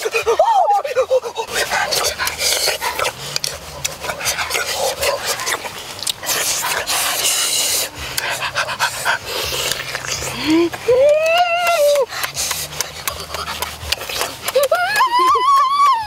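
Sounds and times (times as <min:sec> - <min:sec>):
mouth noises eating: 0:00.0 - 0:16.0.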